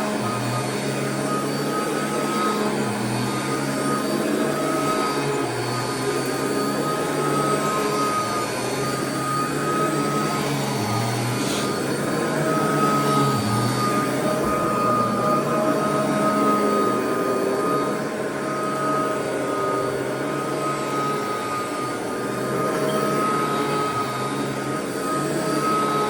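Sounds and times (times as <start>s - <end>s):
vacuum cleaner running over carpet: 0.0s - 26.0s.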